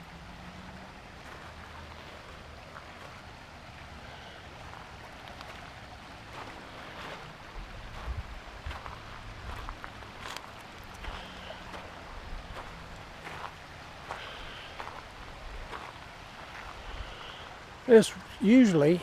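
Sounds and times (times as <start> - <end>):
steady hiss: 1.2 - 19.0.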